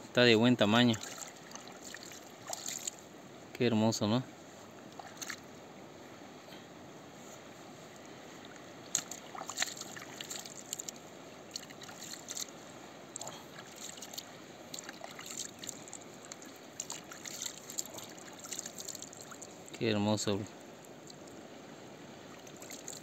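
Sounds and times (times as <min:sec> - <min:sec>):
water splashing and trickling: 0:00.4 - 0:03.1, 0:04.7 - 0:05.5, 0:07.8 - 0:23.0
river rushing: 0:00.6 - 0:03.6, 0:04.3 - 0:23.0.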